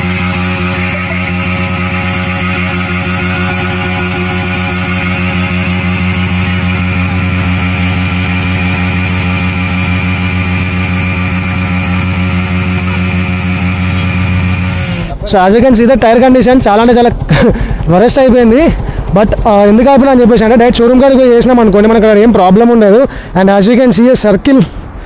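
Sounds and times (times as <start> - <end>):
motorcycle engine at full throttle: 0.0 - 23.2.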